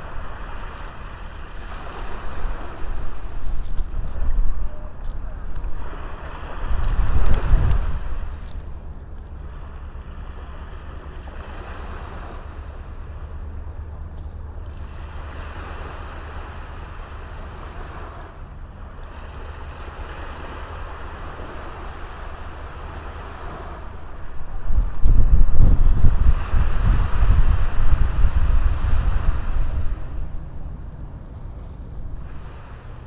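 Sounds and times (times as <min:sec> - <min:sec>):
small waves washing onto beach: 0:00.0 - 0:33.0
wind rumble on microphone: 0:00.0 - 0:33.0.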